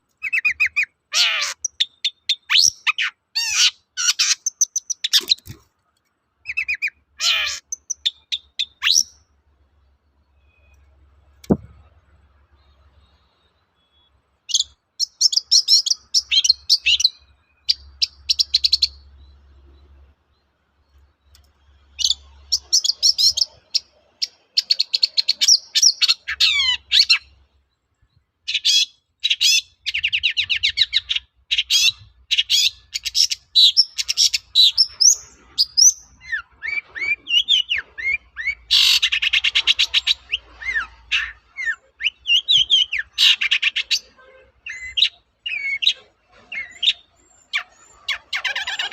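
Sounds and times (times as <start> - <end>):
bird chattering song: 0.2 - 5.6, 6.4 - 9.3, 12.5 - 27.4, 28.5 - 48.9.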